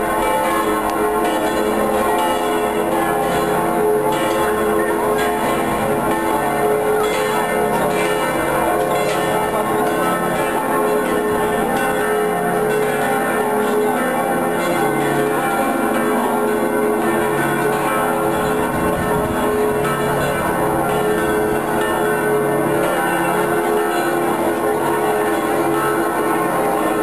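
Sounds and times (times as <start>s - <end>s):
church bells pealing: 0.0s - 27.0s.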